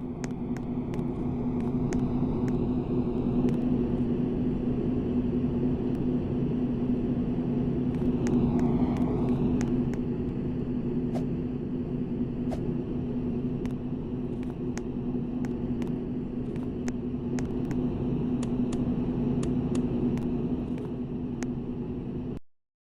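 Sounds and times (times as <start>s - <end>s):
ceiling fan motor humming: 0.0s - 22.4s.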